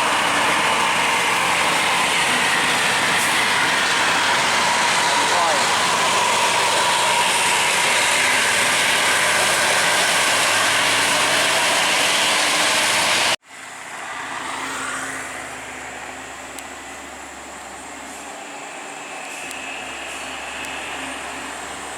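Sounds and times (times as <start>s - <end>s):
distant vehicle engine: 0.0s - 21.9s
heavy vehicle engine and road rush: 0.0s - 21.9s.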